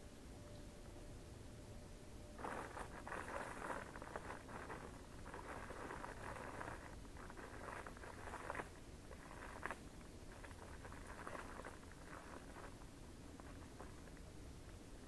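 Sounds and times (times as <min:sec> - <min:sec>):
crackling and rustling: 0:02.4 - 0:15.0.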